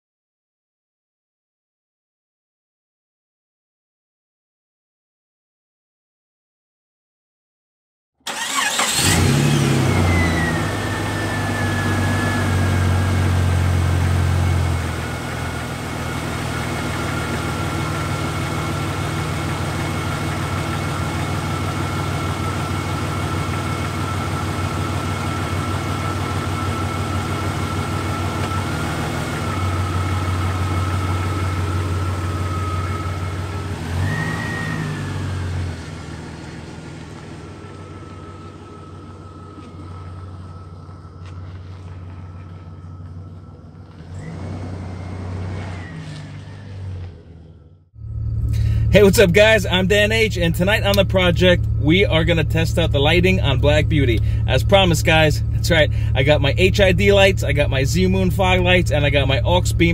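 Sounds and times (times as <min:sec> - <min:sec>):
car engine idling with whine: 0:08.3 - 0:59.9
car engine revving: 0:08.3 - 0:59.9.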